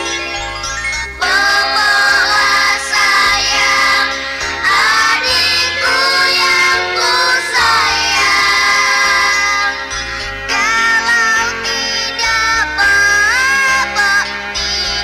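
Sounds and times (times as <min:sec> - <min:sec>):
song with high sung vocal: 0:00.0 - 0:15.0.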